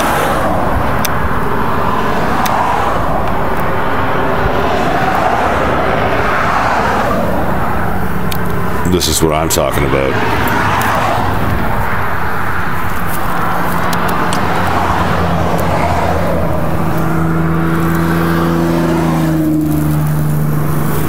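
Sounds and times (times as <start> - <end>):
rushing noise: 0.0 - 21.0
vehicle engine running: 0.0 - 21.0.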